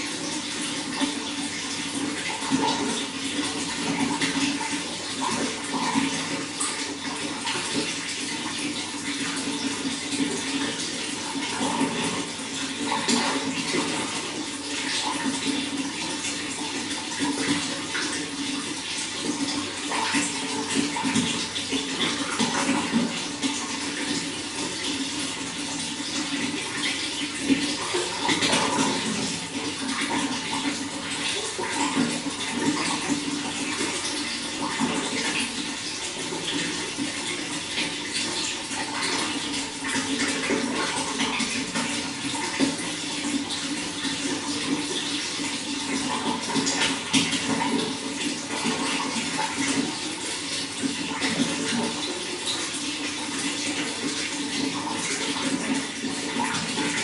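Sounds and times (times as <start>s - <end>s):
water flowing and splashing: 0.0s - 57.0s.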